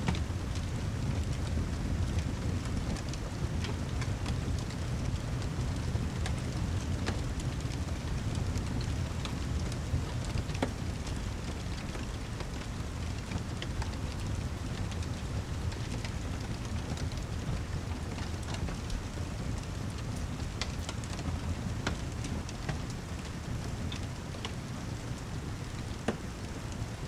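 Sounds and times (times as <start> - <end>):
heavy rain with low rumble: 0.0 - 27.0
fire crackling and popping: 0.1 - 27.0.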